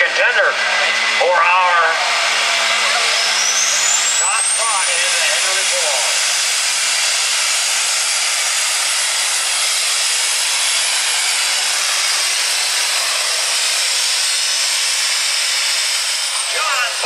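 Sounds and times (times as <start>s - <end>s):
diesel engine roaring: 0.0s - 17.0s
high turbo whistle: 2.0s - 17.0s.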